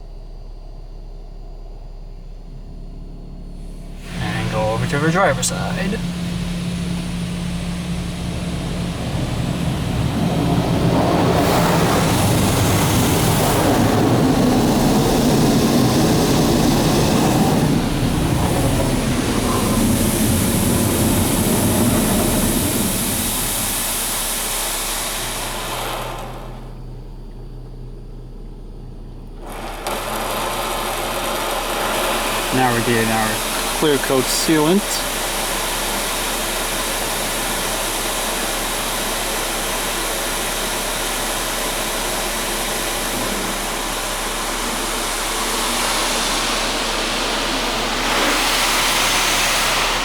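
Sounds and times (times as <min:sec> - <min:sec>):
water jets spraying car: 0:03.6 - 0:26.9, 0:29.4 - 0:50.0.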